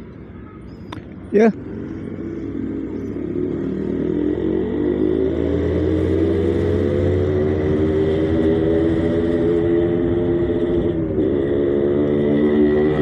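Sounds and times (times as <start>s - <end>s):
motorcycle engine accelerating: 1.3s - 13.0s.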